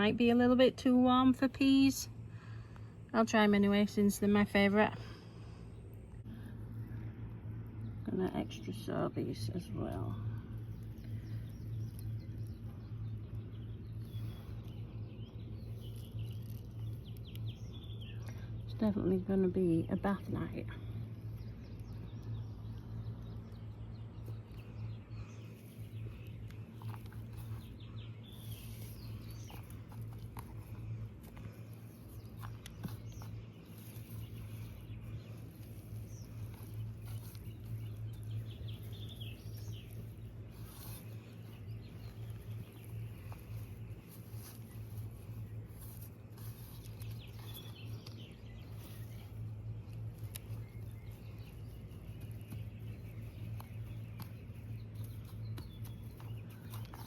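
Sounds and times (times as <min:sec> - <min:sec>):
birds chirping: 0:00.0 - 0:57.0
steady low hum: 0:00.0 - 0:57.0
hands tapping and rustling soil: 0:08.1 - 0:20.6, 0:21.2 - 0:57.0.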